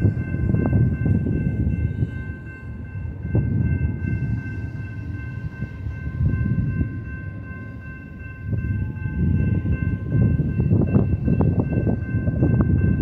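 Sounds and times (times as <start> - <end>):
freight train rumbling past: 0.0 - 13.0
high-pitched ringing tones: 0.0 - 13.0.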